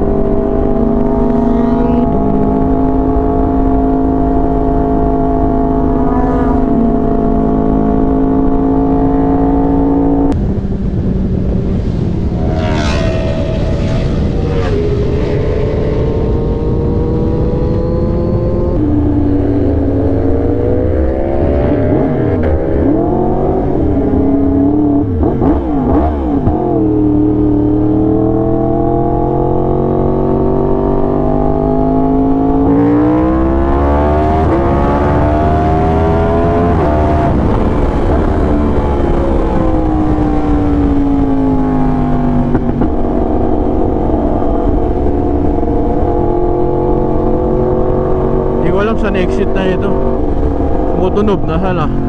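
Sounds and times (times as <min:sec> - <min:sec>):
motorcycle engine revving: 0:00.0 - 0:52.0
wind and road noise: 0:00.0 - 0:52.0.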